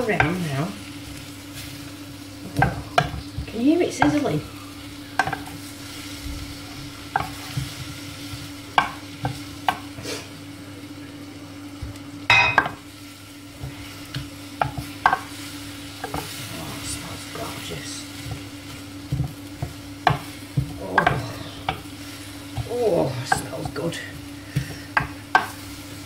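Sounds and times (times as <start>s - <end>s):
faint sizzle: 0.0s - 26.0s
steady low hum: 0.0s - 26.0s.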